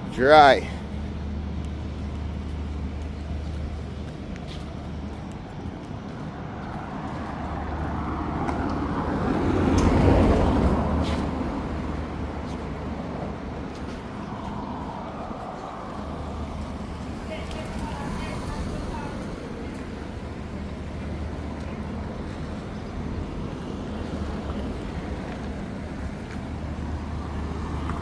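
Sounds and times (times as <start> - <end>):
vehicle passing: 0.0 - 28.0.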